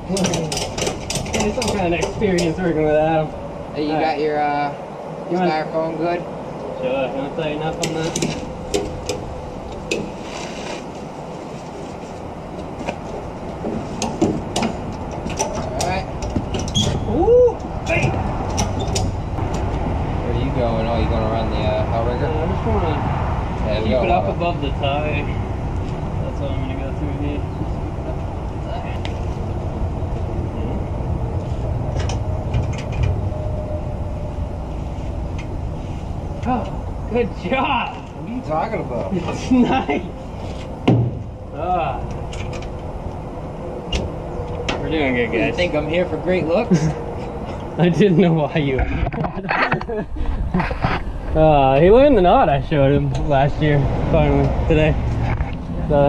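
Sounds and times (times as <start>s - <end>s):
low rumble and hiss: 0.0s - 56.0s.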